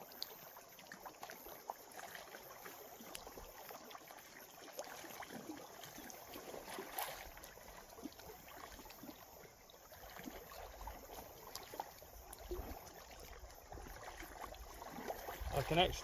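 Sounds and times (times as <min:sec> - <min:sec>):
small ticks and splashes: 0:00.0 - 0:16.0
water lapping and trickling: 0:00.0 - 0:16.0.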